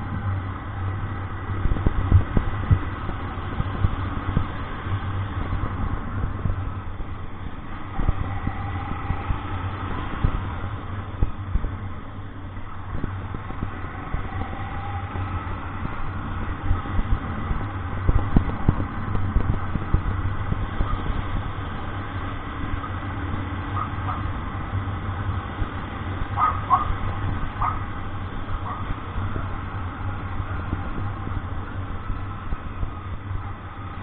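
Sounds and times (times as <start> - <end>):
vehicle engine and road drone: 0.0 - 34.0.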